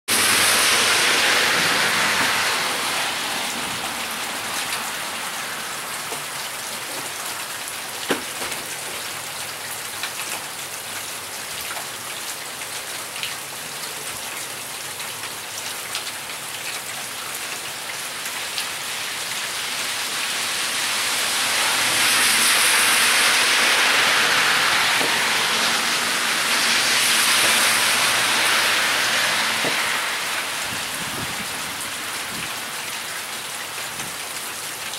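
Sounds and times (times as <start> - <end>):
heavy rain on pavement: 0.1 - 34.9
tyres swishing on wet road: 0.1 - 34.9.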